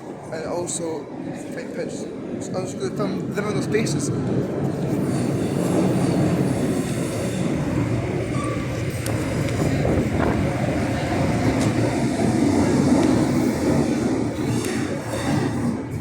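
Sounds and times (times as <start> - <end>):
train wheels on rails: 2.6 - 16.0.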